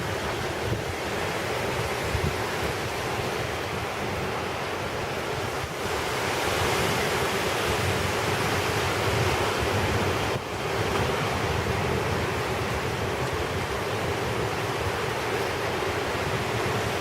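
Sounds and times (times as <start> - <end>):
rain: 0.0 - 17.0
wind buffeting microphone: 0.0 - 17.0.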